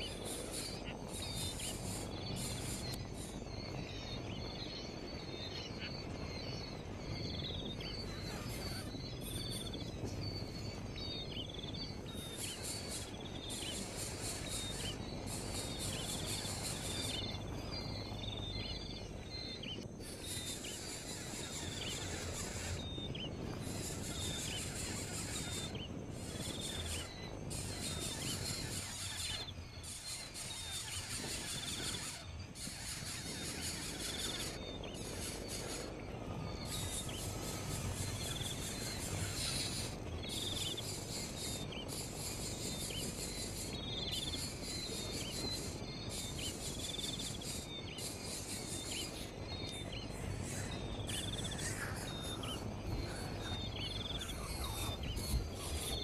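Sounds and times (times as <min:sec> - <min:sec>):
bird chirping: 0:00.0 - 0:56.0
insects buzzing shrill: 0:00.0 - 0:56.0
low background rumble: 0:00.0 - 0:56.0.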